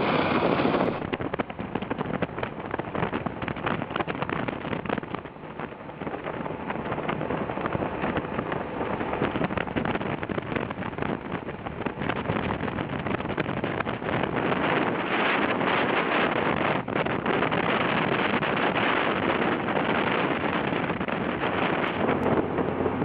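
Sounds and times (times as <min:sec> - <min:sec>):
wind over microphone: 0:00.0 - 0:23.0.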